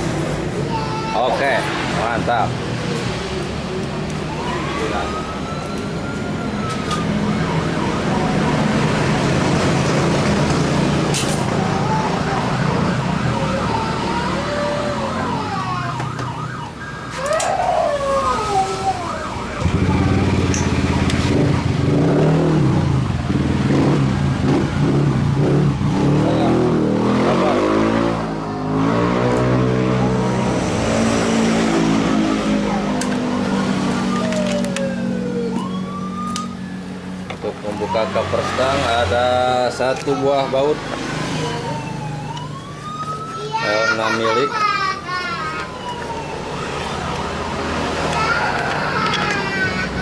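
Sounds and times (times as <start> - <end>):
siren wailing: 4.2 - 10.2, 11.5 - 23.3, 26.2 - 44.5, 45.3 - 49.2.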